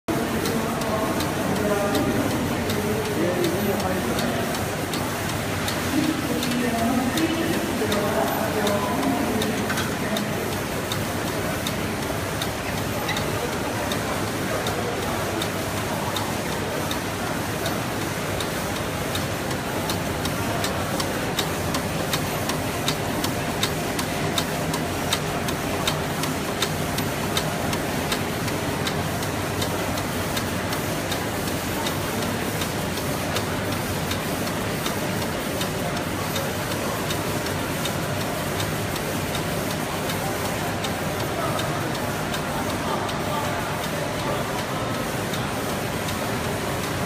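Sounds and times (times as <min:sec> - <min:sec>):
continuous mechanical noise: 0:00.1 - 0:47.0.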